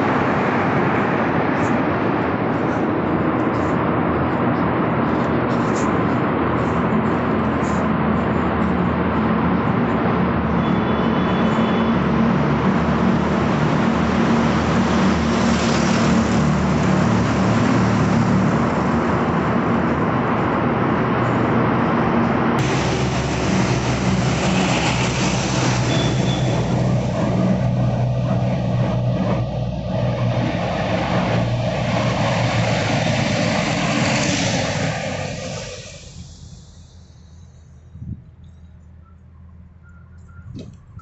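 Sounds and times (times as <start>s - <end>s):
traffic rumble in tunnel: 0.0s - 41.0s.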